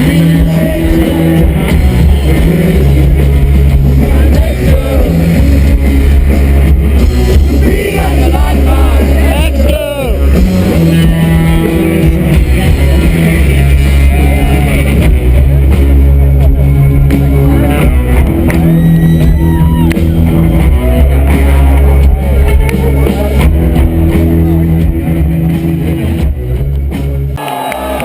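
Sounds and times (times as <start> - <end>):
loud live rock music: 0.0 - 28.0.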